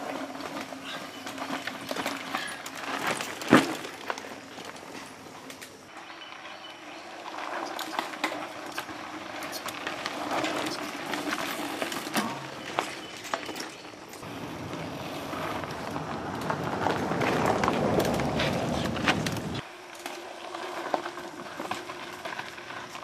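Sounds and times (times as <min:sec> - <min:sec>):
bike tyres crunching over stones: 0:00.0 - 0:23.0.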